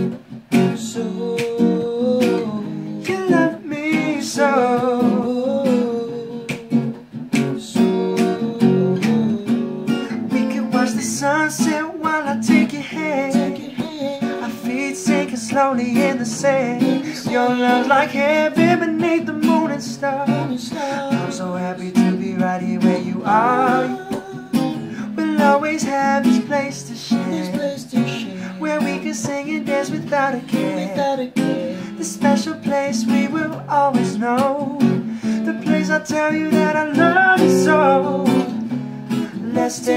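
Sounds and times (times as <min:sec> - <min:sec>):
acoustic guitar strumming: 0:00.0 - 0:39.9
person singing: 0:00.0 - 0:39.9.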